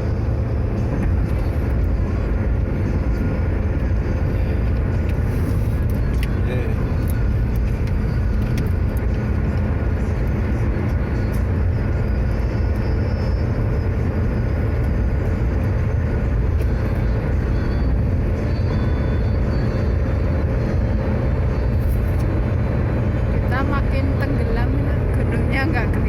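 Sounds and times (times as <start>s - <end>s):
tyre and road noise in car: 0.0s - 26.0s.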